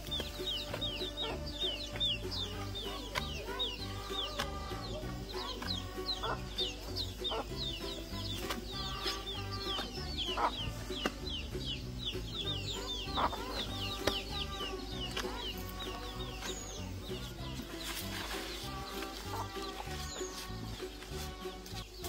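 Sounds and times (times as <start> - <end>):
background music: 0.0 - 22.0
birds chirping: 0.0 - 22.0.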